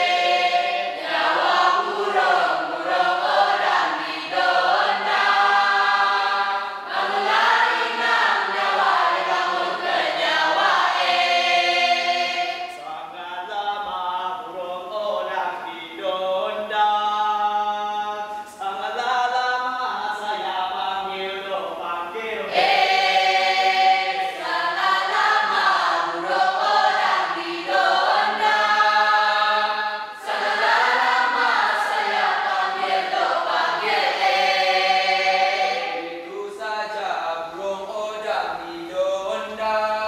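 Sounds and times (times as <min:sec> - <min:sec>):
group singing unaccompanied: 0:00.0 - 0:40.0.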